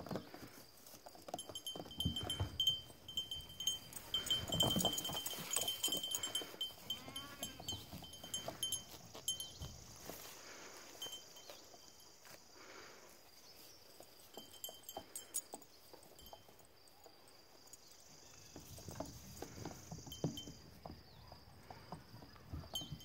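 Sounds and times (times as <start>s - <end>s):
goat hooves tapping on tires: 0.0s - 12.4s, 13.8s - 23.0s
high-pitched insect chorus: 0.8s - 20.8s.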